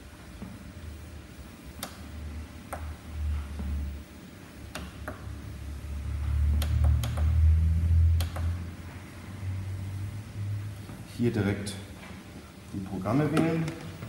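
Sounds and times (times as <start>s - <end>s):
treadmill motor and belt hum: 0.0s - 14.0s.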